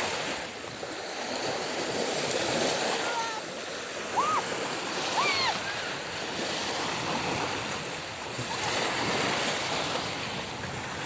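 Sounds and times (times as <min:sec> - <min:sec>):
sea waves washing at shore: 0:00.0 - 0:11.0.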